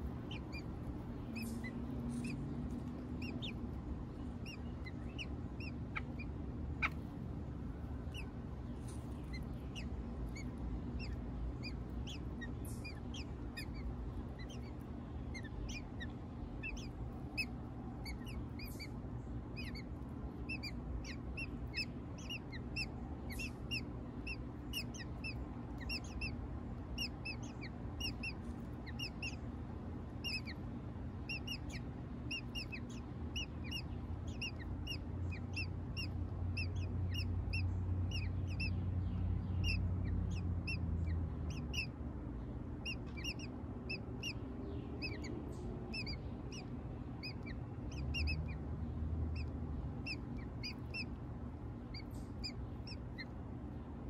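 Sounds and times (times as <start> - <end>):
birds peeping: 0.0 - 54.0.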